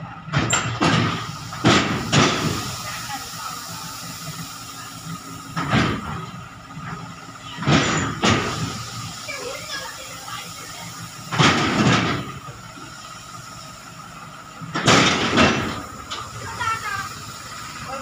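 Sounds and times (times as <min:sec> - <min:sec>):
grain rushing off steel trailer: 0:01.0 - 0:18.0.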